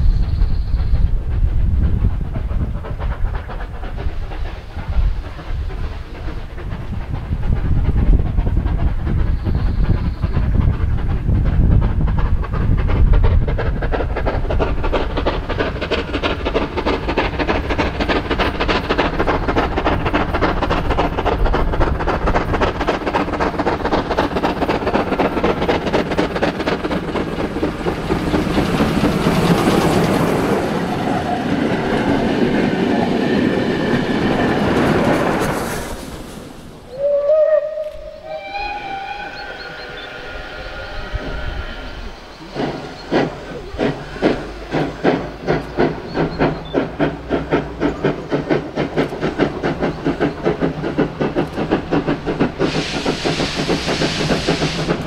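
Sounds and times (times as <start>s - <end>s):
train wheels clattering: 0.0s - 55.0s.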